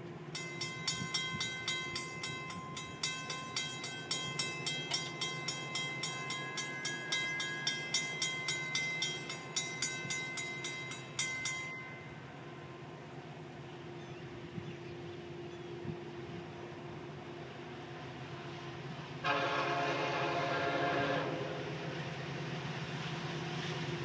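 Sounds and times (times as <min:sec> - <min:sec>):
railroad crossing bell ringing: 0:00.1 - 0:14.2, 0:15.0 - 0:24.0.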